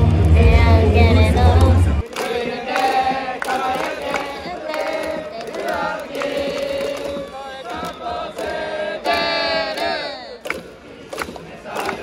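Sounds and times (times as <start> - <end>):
sharp rhythmic beats: 0.1 - 12.0
crowd chanting in unison: 1.4 - 12.0.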